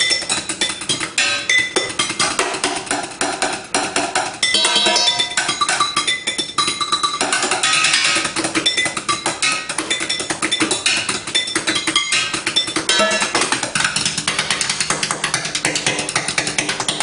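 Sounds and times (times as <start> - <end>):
chopsticks drumming on pots and pans: 0.0 - 17.0.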